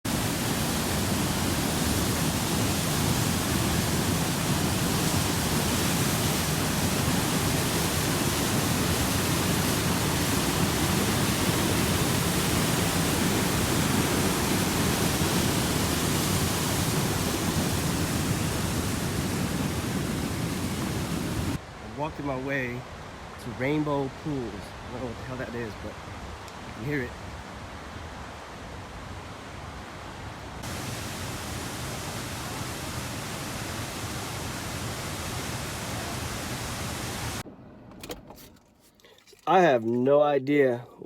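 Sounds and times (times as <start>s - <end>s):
rushing water: 0.0s - 37.5s, 38.9s - 41.0s.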